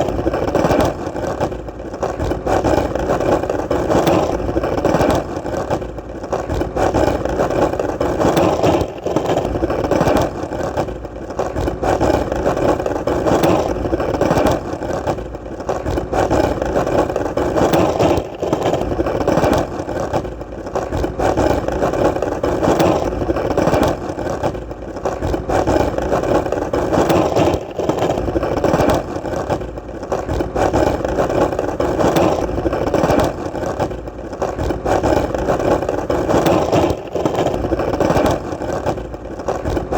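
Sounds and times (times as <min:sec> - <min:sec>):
skateboard wheels rolling: 0:00.0 - 0:39.9.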